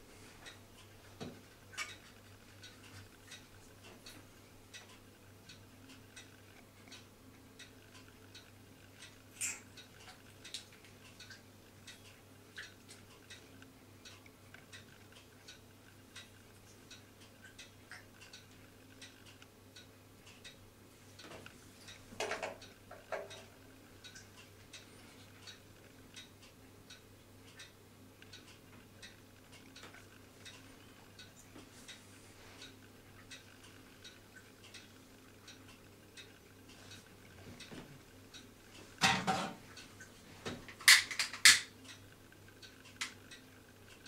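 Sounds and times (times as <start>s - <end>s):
faint regular ticking: 0.0s - 44.0s.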